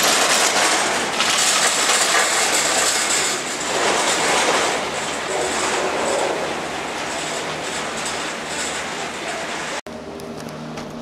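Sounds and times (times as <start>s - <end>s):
gondola carriages clattering on rails: 0.0s - 9.8s
machinery rattling rumble: 0.0s - 11.0s.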